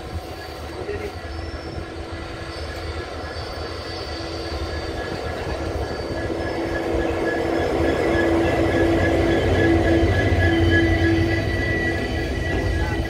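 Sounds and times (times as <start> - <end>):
diesel locomotive engine humming: 0.0 - 13.0
train rumbling on track: 0.0 - 13.0.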